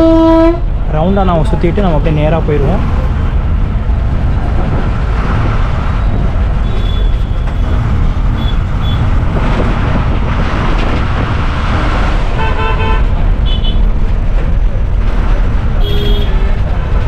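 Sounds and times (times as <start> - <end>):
bus engine rumble: 0.0 - 17.0
road and traffic noise: 0.0 - 17.0.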